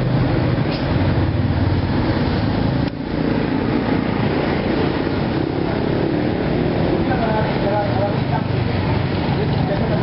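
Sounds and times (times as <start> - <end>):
motorbike engines droning: 0.0 - 10.0
street traffic: 0.0 - 10.0.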